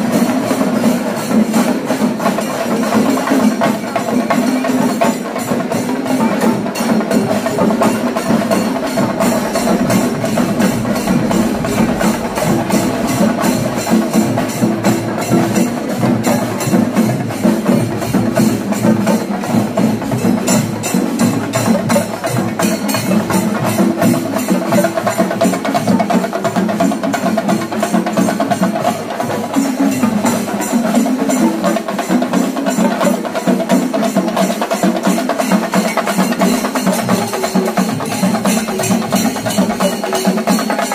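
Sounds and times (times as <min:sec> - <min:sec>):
percussion ensemble drums and cymbals: 0:00.0 - 0:40.9.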